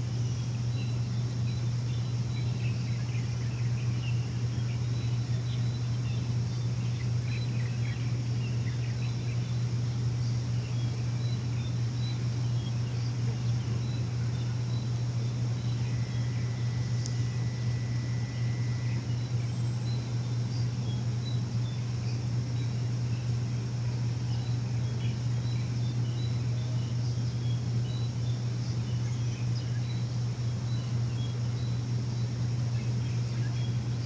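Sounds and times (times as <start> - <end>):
low machine hum: 0.0 - 34.0
small birds chirping faintly: 0.0 - 34.0.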